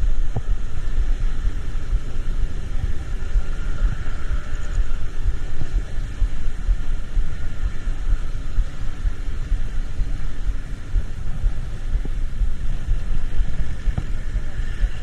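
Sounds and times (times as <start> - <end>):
road noise: 0.0 - 15.0
road vehicle rumble: 0.0 - 15.0.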